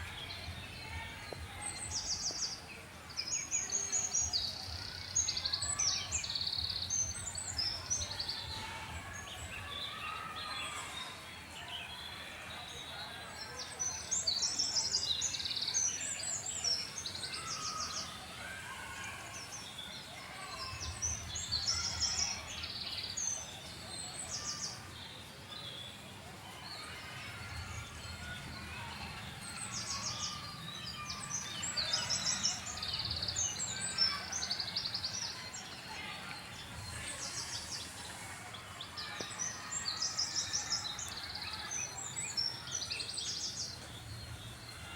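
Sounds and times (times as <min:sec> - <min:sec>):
faint outdoor background: 0:00.0 - 0:44.9
small birds chirping and trilling: 0:00.0 - 0:44.9.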